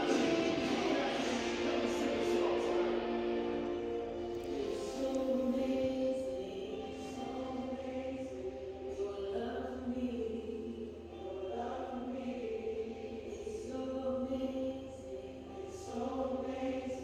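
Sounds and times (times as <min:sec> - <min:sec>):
steady low hum: 0:00.0 - 0:17.0
voices singing long chords: 0:00.0 - 0:17.0.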